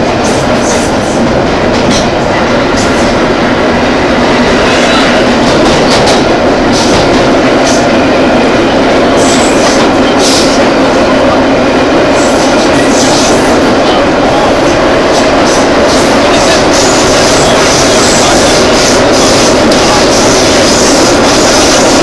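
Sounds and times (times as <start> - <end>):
subway car wheels and motors: 0.0 - 22.0.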